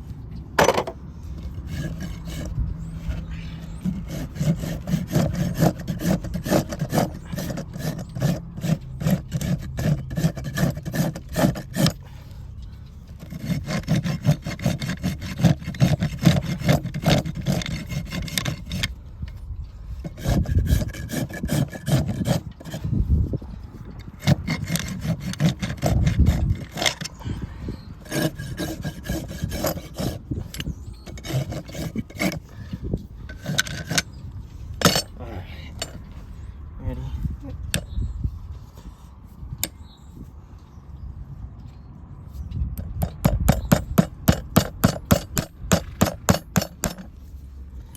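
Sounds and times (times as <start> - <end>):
rasp filing a hoof: 0.0 - 40.3, 41.8 - 47.9.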